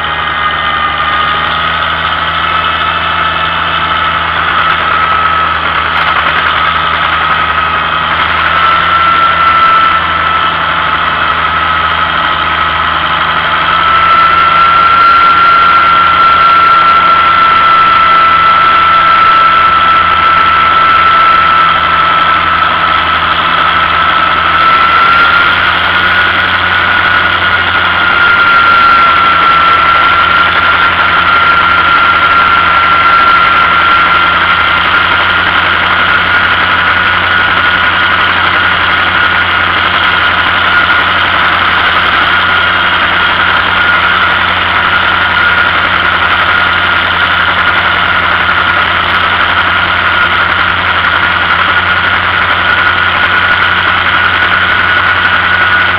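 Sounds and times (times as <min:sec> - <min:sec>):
high whine: 0:00.0 - 0:55.9
tractor engine running: 0:00.0 - 0:55.9.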